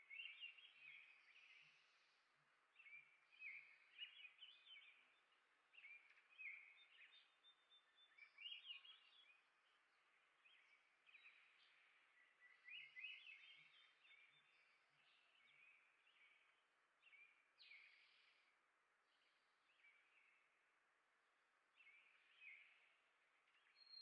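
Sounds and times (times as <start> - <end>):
songbird singing warbled phrases: 0.0 - 1.8, 2.8 - 18.4, 21.8 - 24.0.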